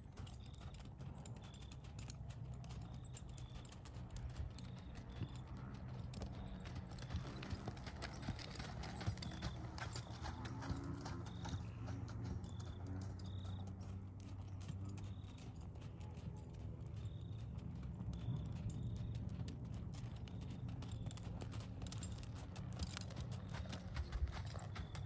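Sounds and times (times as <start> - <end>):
horse hoofbeats on sand: 0.0 - 25.0.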